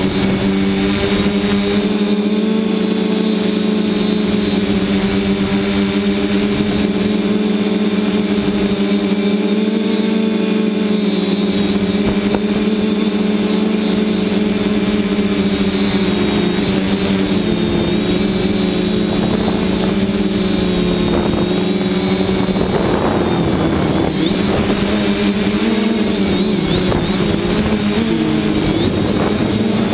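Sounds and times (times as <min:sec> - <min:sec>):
drone propellers buzzing hum: 0:00.0 - 0:29.9
high motor whine: 0:00.0 - 0:29.9.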